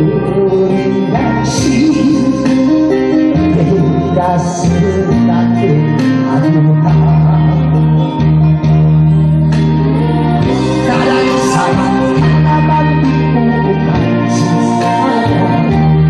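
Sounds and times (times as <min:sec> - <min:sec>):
man singing into microphone: 0:00.0 - 0:08.4, 0:10.4 - 0:16.0
instrumental accompaniment: 0:00.0 - 0:16.0.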